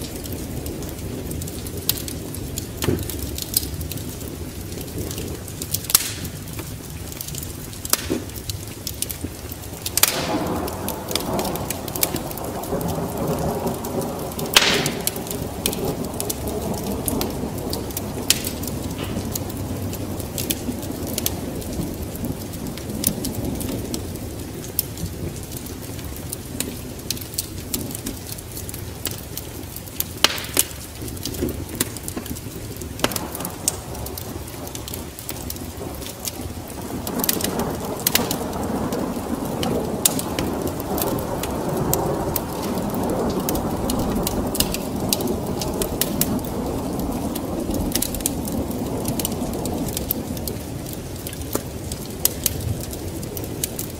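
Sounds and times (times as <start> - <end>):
low rumble of thunder: 0.0 - 53.9
sharp crackles: 0.0 - 53.9
steady rain: 0.0 - 53.9.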